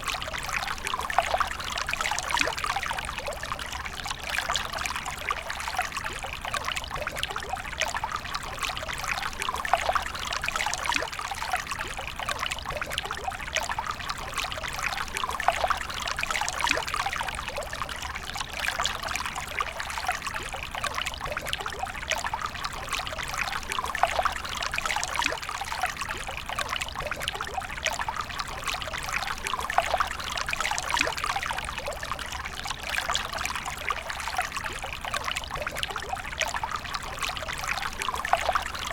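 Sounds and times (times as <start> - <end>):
water pouring and trickling: 0.0 - 38.9.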